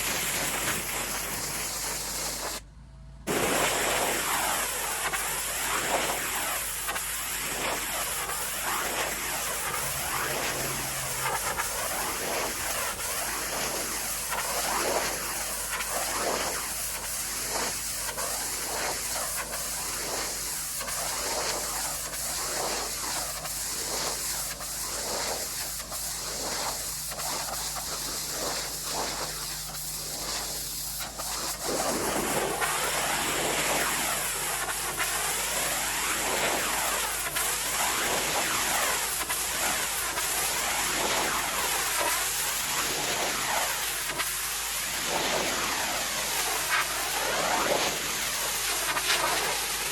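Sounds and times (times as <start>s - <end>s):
pressure washer spraying: 0.0s - 2.6s, 3.3s - 49.9s.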